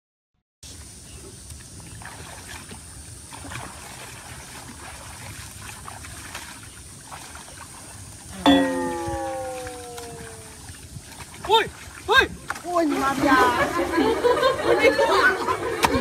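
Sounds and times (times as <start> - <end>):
pond water splashing: 0.7 - 16.0.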